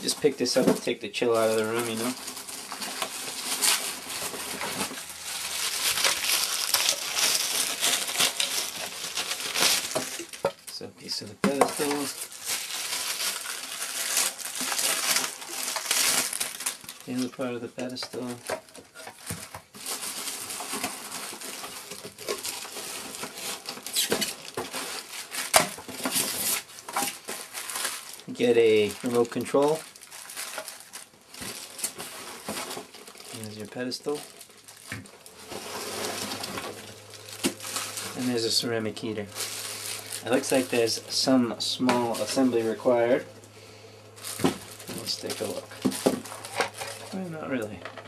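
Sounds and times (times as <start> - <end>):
packaging rustling and crinkling: 0.0 - 48.0.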